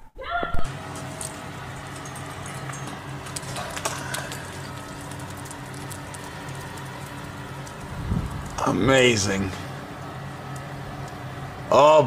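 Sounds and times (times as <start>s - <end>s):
low machine hum: 0.6s - 12.0s.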